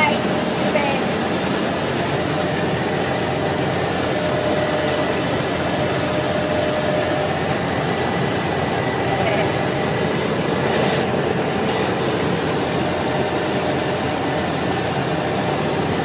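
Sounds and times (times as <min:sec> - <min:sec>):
faint high whine: 0:00.0 - 0:16.0
truck diesel engine drone: 0:00.0 - 0:16.0.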